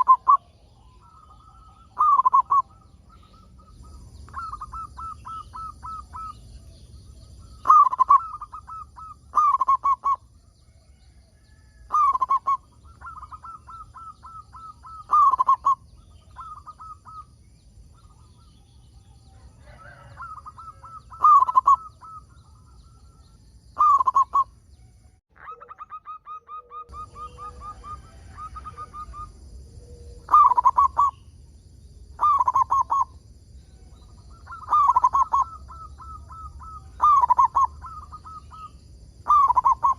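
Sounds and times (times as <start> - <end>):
doves cooing: 0.0 - 24.5, 25.4 - 31.3, 32.2 - 39.9.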